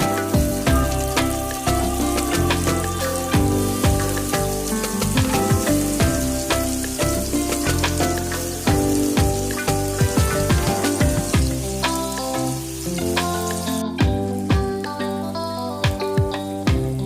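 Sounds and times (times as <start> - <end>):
background music with drum beat: 0.0 - 17.0
food sizzling in a frying pan: 0.0 - 17.0.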